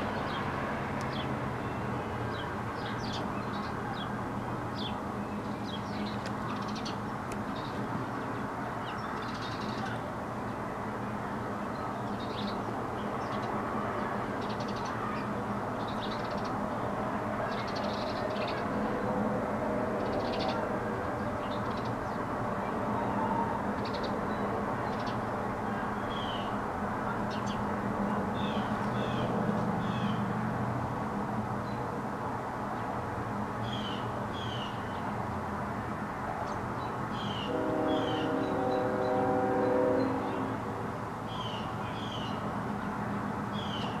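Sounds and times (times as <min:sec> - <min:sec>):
steady outdoor hum: 0:00.0 - 0:44.0.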